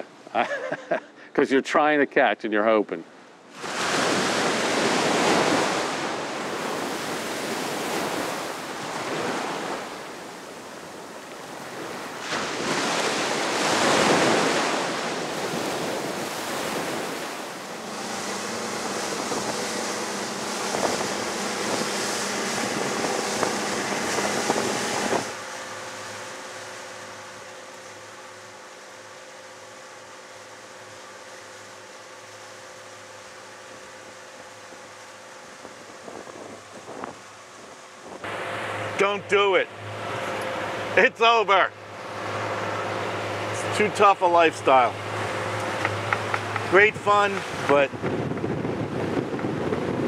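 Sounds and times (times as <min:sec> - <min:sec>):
ocean waves breaking: 0:03.0 - 0:50.0.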